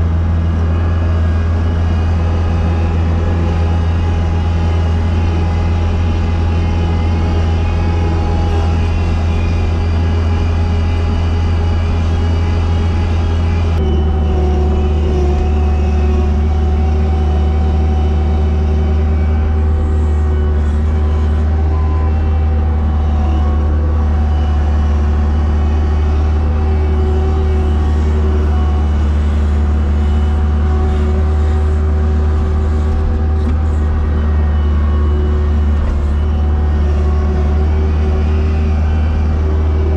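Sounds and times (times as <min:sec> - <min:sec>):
snow plow engine running: 0:00.0 - 0:39.9.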